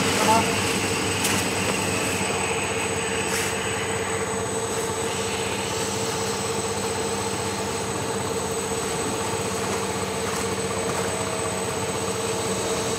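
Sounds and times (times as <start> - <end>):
machine humming with high whine: 0.0 - 12.9.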